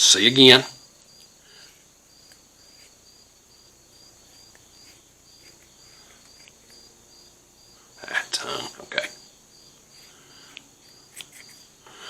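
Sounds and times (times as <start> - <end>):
crickets chirping: 0.0 - 12.0
high insect hiss: 0.0 - 12.0.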